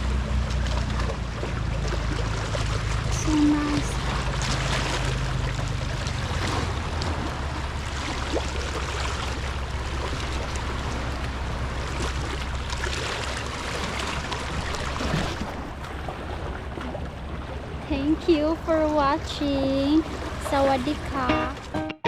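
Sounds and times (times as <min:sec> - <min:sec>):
waves washing on beach: 0:00.0 - 0:21.8
low motor hum: 0:00.0 - 0:21.9.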